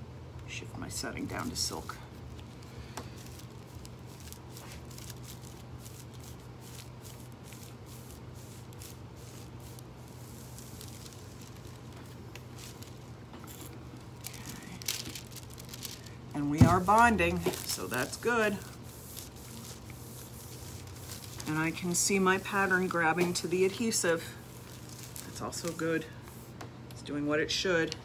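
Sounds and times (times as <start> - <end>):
steady low hum: 0.0 - 28.0
foil sheet crinkling: 1.7 - 26.5.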